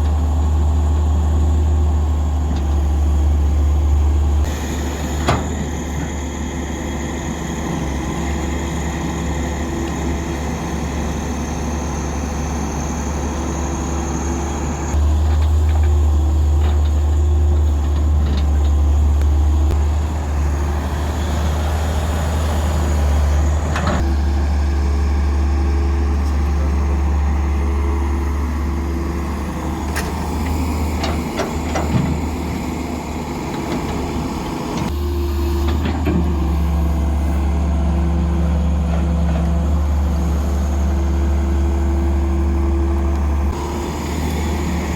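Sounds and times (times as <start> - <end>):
diesel construction machinery running: 0.0 - 44.9.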